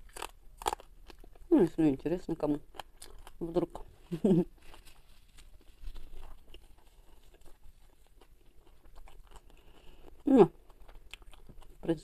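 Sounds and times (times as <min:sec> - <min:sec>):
chewing with wet mouth sounds: 0:00.0 - 0:12.0.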